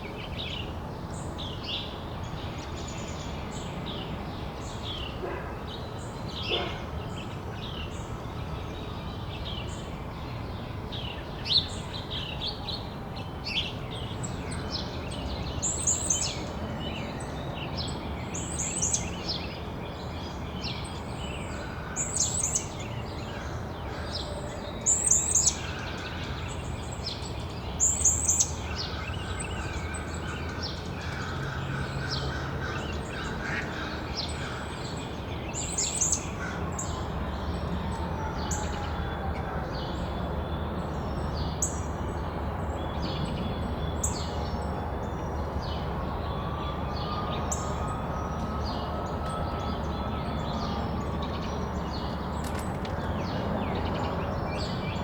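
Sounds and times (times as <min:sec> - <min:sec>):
songbirds chirping: 0:00.2 - 0:55.0.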